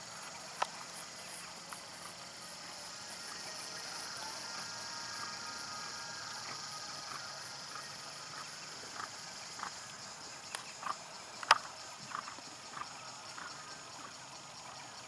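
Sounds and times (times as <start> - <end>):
insect drone: 0.0 - 15.0
short insect chirps: 0.0 - 15.0.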